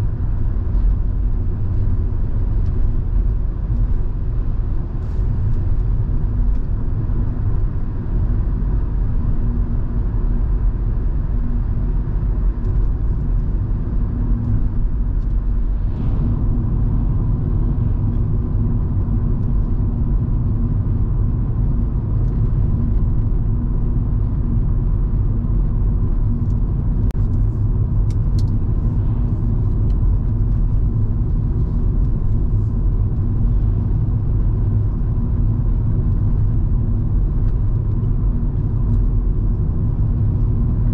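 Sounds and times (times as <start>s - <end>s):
car engine drone: 0.0s - 40.9s.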